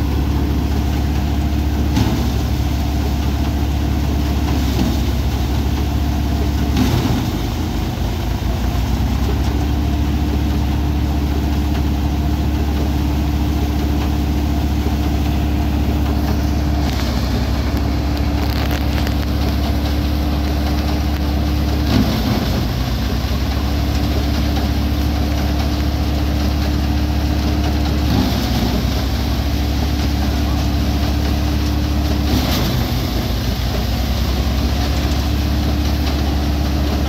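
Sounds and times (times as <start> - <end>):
paddy thresher running: 0.0 - 37.0.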